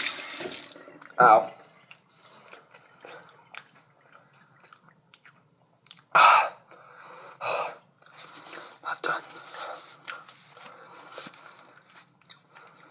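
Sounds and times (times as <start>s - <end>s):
chewing fries: 0.9s - 6.9s, 7.8s - 12.9s.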